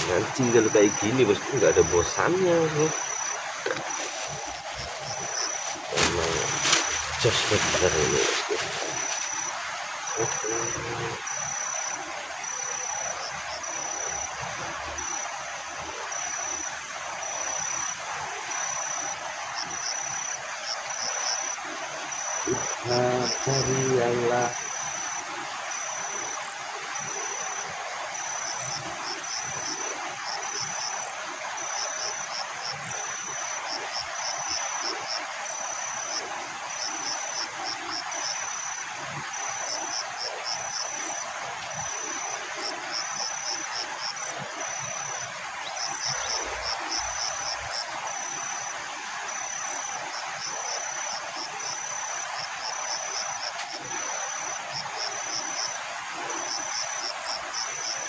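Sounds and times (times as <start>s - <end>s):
insect chirping: 0.0s - 58.0s
steady outdoor hiss: 0.0s - 58.0s.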